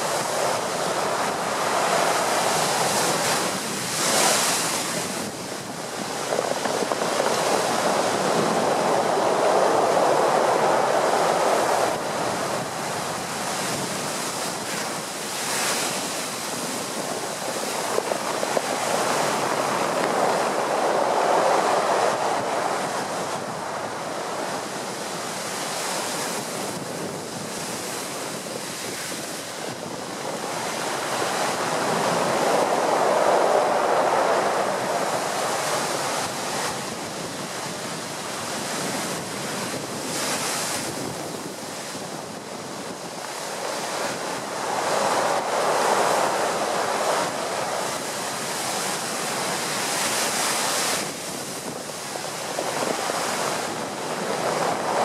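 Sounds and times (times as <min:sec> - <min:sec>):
surf crashing against sea wall: 0:00.0 - 0:55.0
wind buffeting microphone: 0:00.0 - 0:55.0.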